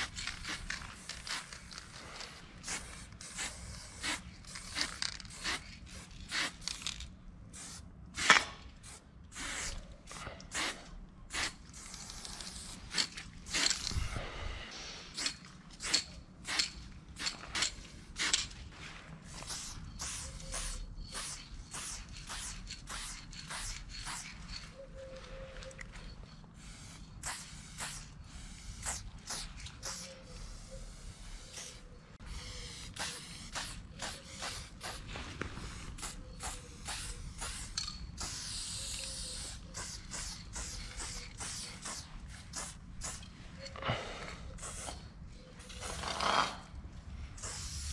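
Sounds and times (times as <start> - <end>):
spray paint can hissing: 0.0 - 14.2, 15.1 - 18.5, 19.3 - 24.7, 26.6 - 43.4, 44.6 - 46.6, 47.4 - 47.9.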